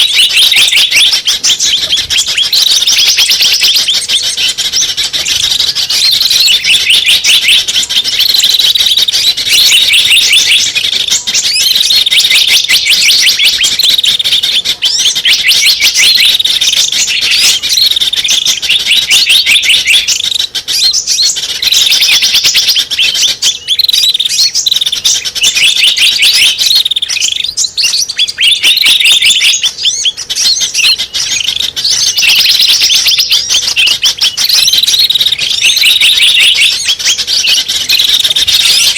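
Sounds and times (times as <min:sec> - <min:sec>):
bird lure call chirping: 0:00.0 - 0:38.9.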